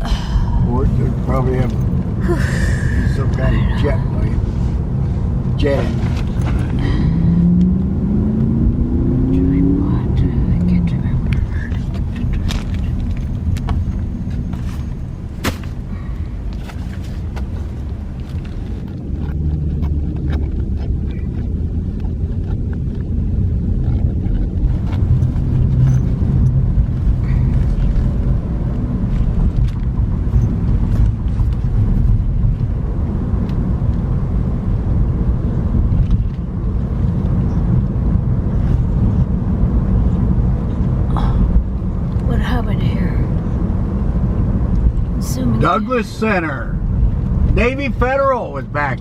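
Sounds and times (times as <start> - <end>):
car cabin road rumble: 0.0 - 49.0.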